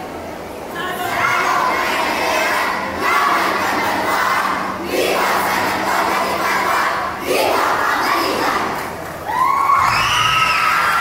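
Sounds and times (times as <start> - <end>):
children shouting a chant: 0.8 - 11.0.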